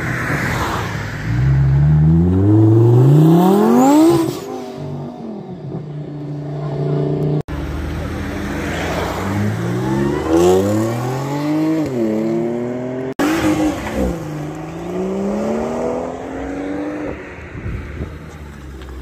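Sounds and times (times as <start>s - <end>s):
car engine revving: 1.2s - 17.4s.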